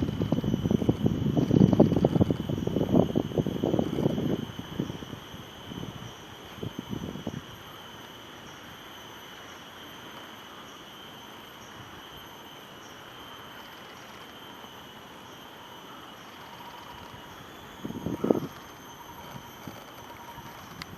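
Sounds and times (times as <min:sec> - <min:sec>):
high-pitched insect drone: 0:00.0 - 0:20.9.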